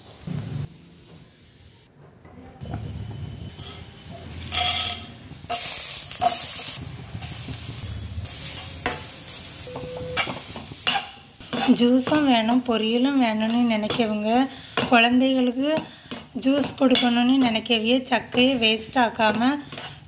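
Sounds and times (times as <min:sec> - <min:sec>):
food sizzling in hot oil: 0:02.7 - 0:20.0.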